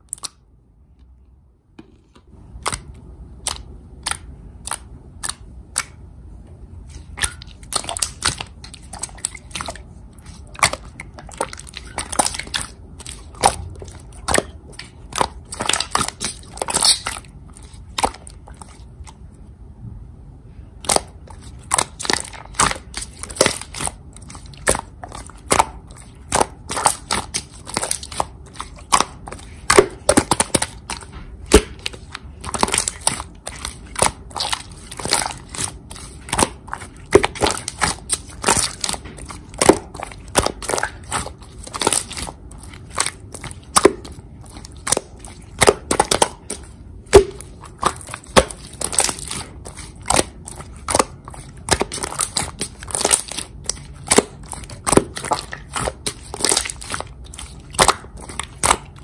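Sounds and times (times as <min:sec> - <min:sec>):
slime squeezed by hand: 0:06.9 - 0:19.1, 0:20.8 - 0:59.0.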